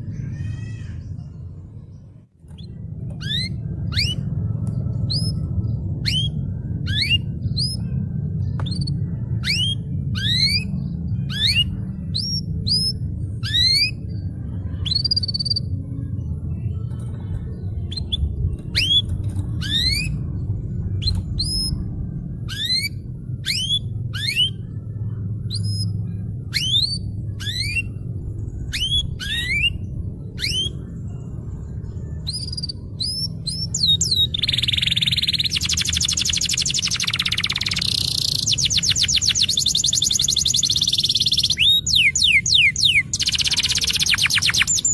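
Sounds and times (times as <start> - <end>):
canary singing: 0.0 - 15.8, 17.8 - 24.8, 25.5 - 44.9
low background rumble: 0.0 - 44.9.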